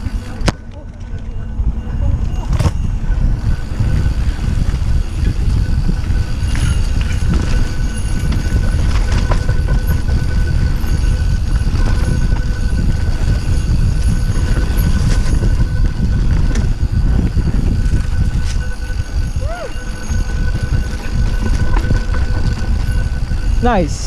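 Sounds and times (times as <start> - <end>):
bike knocking and clattering: 0.0 - 24.0
thin steady tone: 0.0 - 24.0
tyres rumbling on dirt: 0.0 - 24.0
wind buffeting microphone: 0.0 - 24.0.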